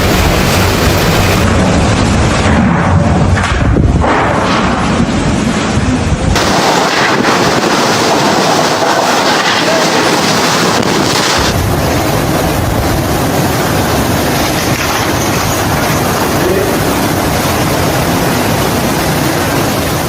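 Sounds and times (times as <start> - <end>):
deep storm rumble: 0.0 - 20.0
strong wind blowing across microphone: 0.0 - 20.0.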